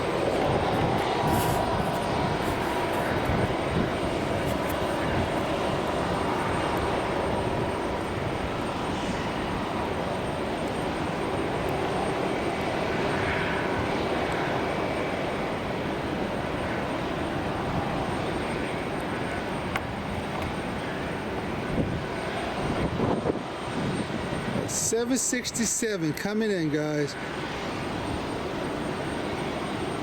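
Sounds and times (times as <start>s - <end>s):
jet engines droning: 0.0s - 30.0s.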